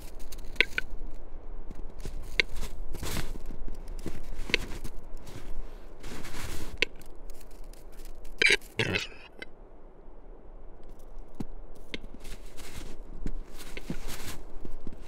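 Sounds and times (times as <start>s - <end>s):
footsteps crunching in snow: 0.0s - 8.6s, 11.3s - 15.0s.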